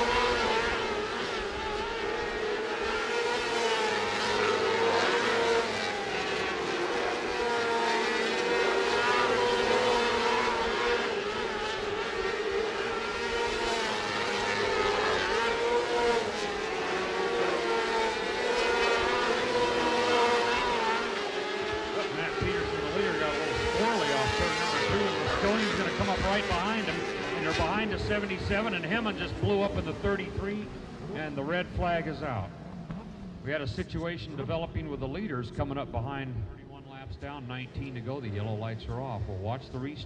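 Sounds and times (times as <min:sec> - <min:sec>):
racing car engines: 0:00.0 - 0:40.0.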